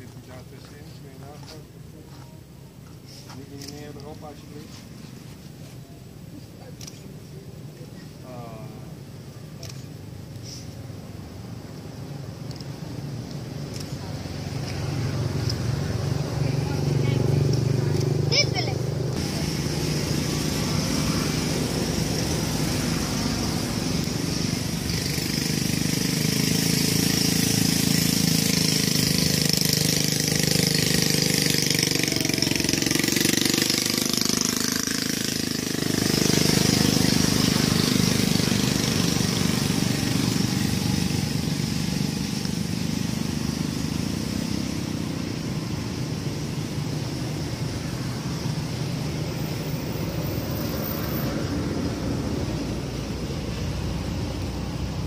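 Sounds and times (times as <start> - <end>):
steady high hiss: 0.0 - 18.4, 19.0 - 55.0.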